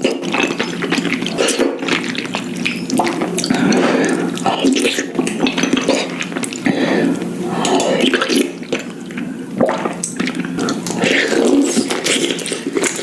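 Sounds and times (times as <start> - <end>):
slurping noodles: 0.0 - 13.0
wet chewing: 0.0 - 13.0.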